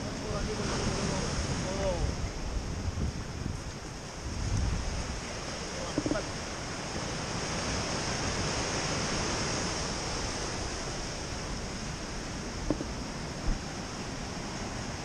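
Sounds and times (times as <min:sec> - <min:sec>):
waves breaking over rocks: 0:00.0 - 0:15.0.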